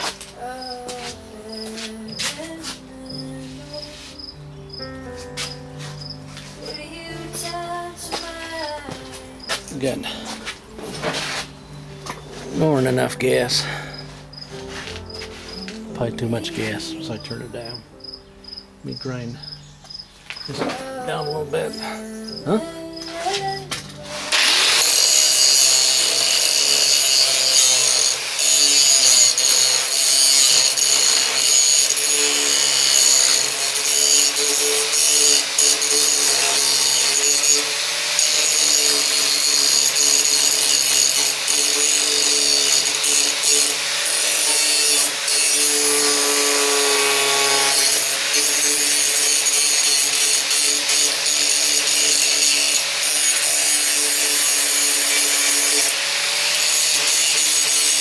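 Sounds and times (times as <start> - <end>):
grinder grinding metal: 0.0 - 58.0.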